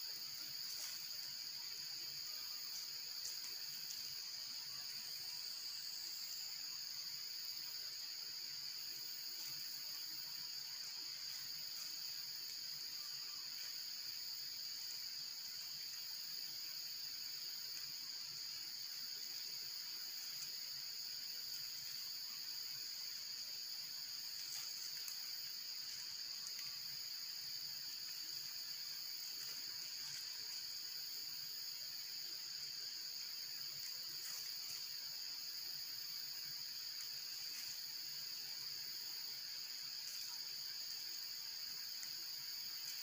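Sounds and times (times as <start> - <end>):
insects droning: 0.0 - 43.0.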